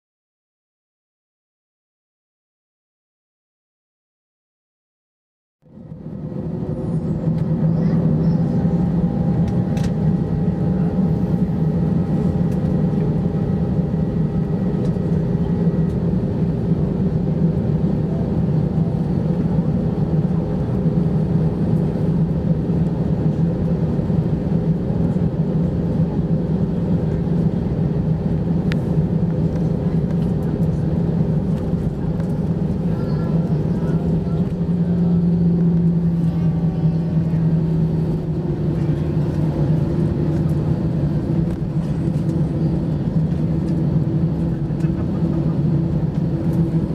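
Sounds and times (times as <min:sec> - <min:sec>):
aircraft engines humming: 0:05.6 - 0:46.9.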